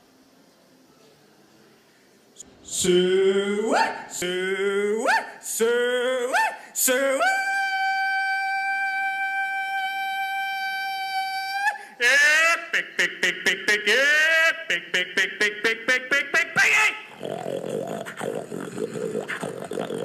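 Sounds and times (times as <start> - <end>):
person hog calling: 2.8 - 20.0.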